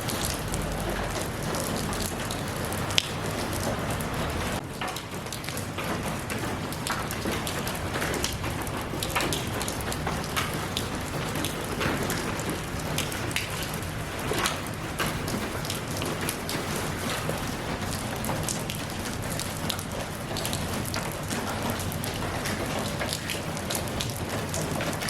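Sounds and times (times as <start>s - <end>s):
raindrops pattering on a surface: 0.0s - 25.0s
steady rain hiss: 0.0s - 25.0s.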